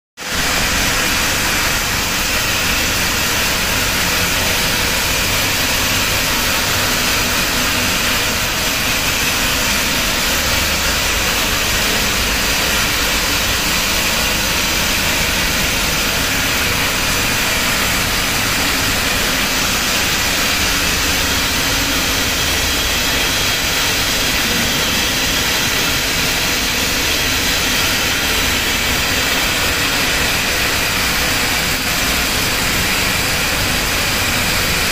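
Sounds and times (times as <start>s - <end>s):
wire drawing machine running: 0.2s - 34.9s.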